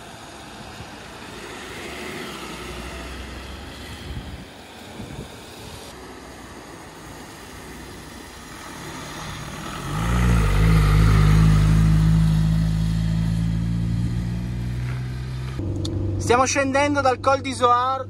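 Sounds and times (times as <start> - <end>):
motorhome engine driving past: 0.0 - 17.5
faint wind: 0.0 - 18.0
road noise: 0.0 - 18.0.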